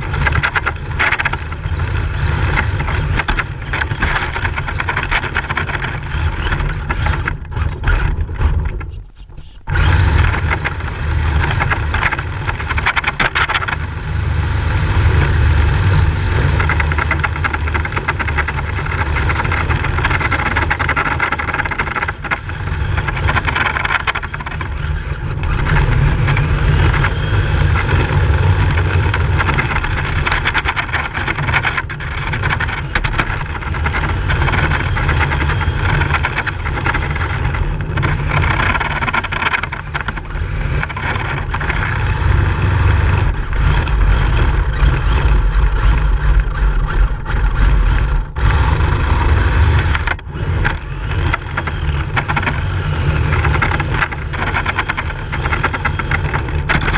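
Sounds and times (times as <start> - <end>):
heavy low rumble: 0.0 - 56.9
rc car motor and tyres: 0.0 - 56.9.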